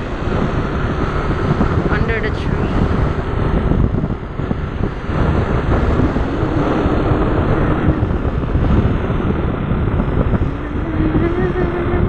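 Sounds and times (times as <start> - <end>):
motorbike engine cruising: 0.0 - 12.0
wind rumble on microphone: 0.0 - 12.0.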